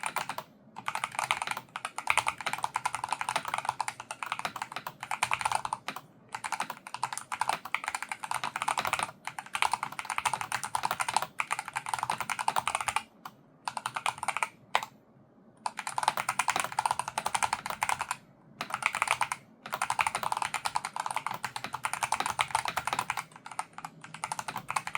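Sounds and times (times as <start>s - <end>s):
keyboard typing: 0.0s - 15.0s, 15.6s - 24.9s.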